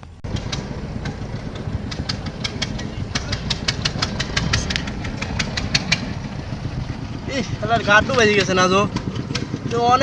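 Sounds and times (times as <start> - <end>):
engine running with rapid clicking: 0.0 - 10.0.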